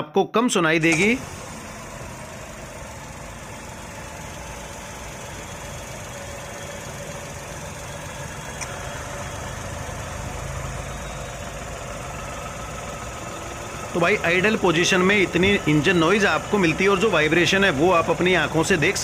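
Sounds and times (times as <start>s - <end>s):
car engine idling: 0.8s - 19.0s.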